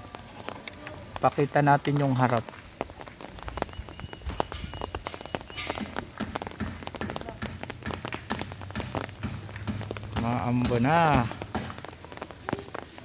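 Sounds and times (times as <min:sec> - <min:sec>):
rain tapping on umbrella: 0:00.0 - 0:13.0.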